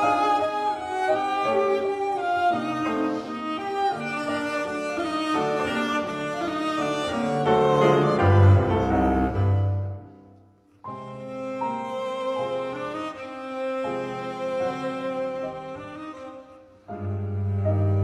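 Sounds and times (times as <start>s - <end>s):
bowed strings music: 0.0s - 18.0s.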